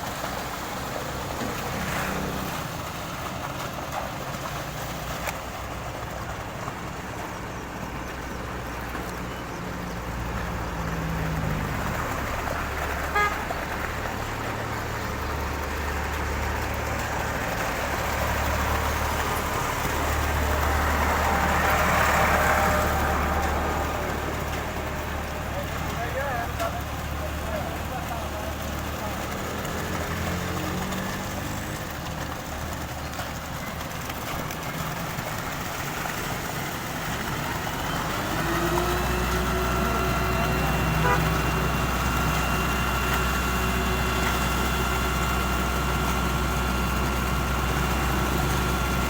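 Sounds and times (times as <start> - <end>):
heavy engine running: 0.0 - 49.0.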